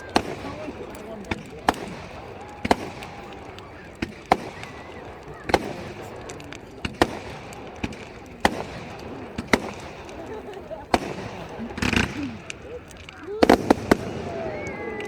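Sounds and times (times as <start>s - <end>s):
crowd chatter: 0.0s - 15.0s
fireworks bangs: 0.0s - 15.0s.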